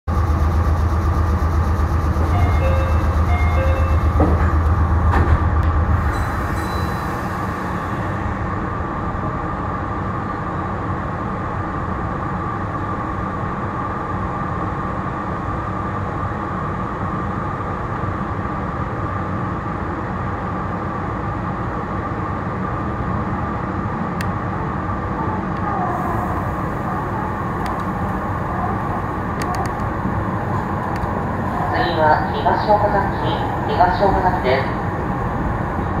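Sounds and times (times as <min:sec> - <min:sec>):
electric train rolling rumble: 0:00.0 - 0:36.0.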